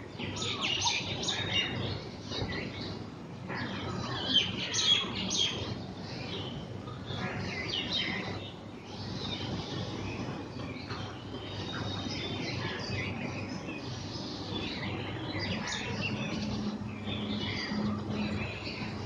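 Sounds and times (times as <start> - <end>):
low steady hum: 0.0 - 19.0
birds whistling and calling: 0.1 - 19.0.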